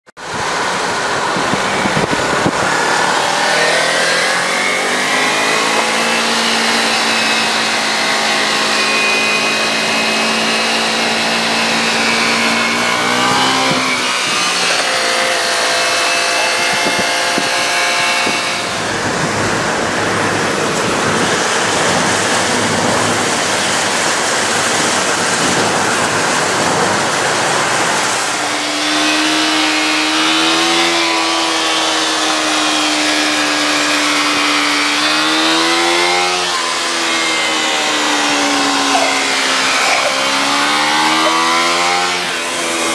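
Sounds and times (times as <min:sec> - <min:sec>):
hissing road noise: 0:00.2 - 0:42.9
motorcycle engine accelerating: 0:00.2 - 0:42.9.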